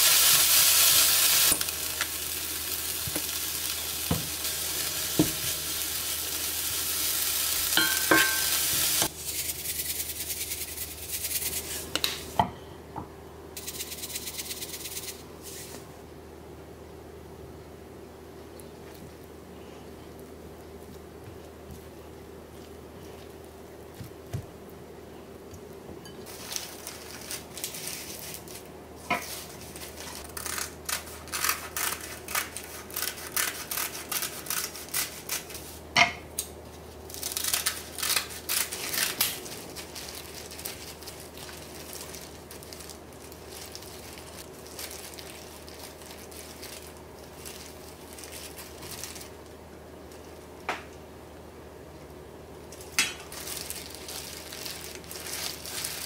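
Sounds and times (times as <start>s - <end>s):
appliance hum: 0.0s - 56.0s.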